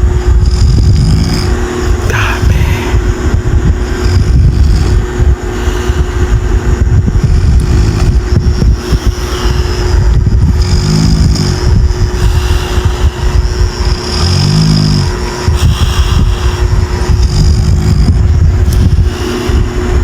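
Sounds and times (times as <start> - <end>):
person snoring loudly: 0.0 - 19.8.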